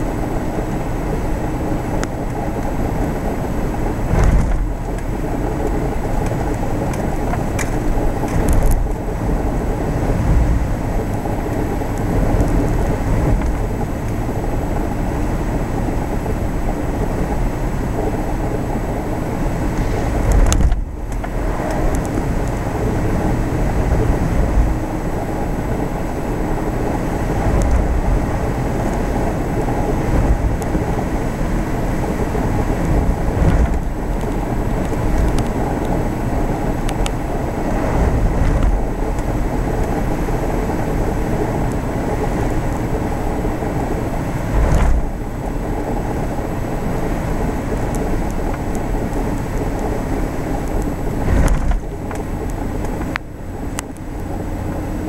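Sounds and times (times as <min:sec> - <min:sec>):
engine and tyre rumble inside vehicle: 0:00.0 - 0:55.0.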